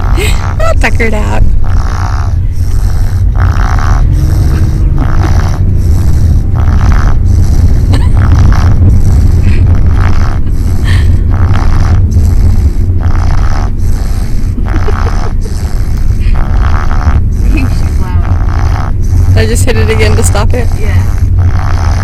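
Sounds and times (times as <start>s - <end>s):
congested snoring: 0.0s - 22.0s
steady low rumble: 0.0s - 22.0s.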